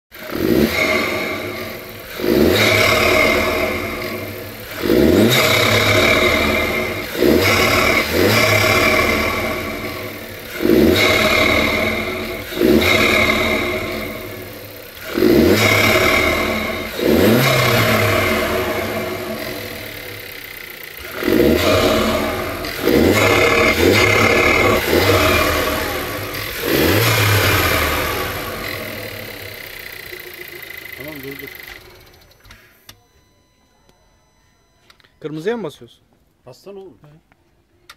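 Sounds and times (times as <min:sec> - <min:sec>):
car engine revving: 0:00.1 - 0:32.4.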